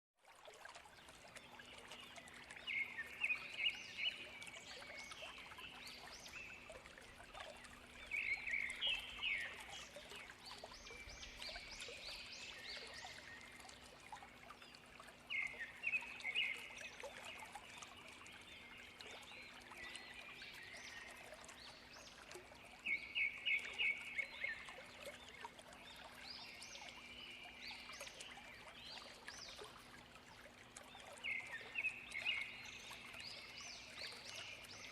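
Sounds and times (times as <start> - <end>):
songbird singing: 1.2 - 34.9.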